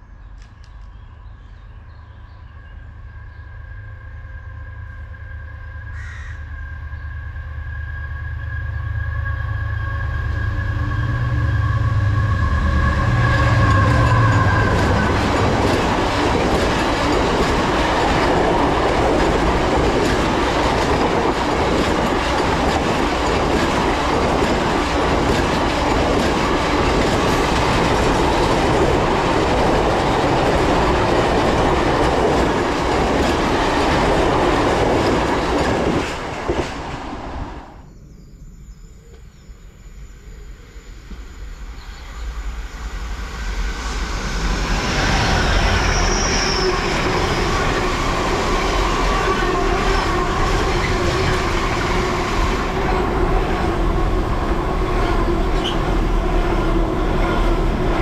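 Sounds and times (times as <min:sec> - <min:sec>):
diesel locomotive engine rumble: 0:00.0 - 0:38.2, 0:39.0 - 0:58.0.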